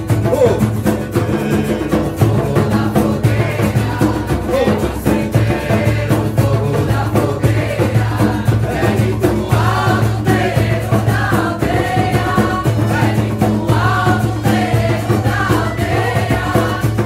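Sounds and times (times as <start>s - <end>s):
several voices singing: 0.0s - 17.0s
steady percussion beat: 0.0s - 17.0s.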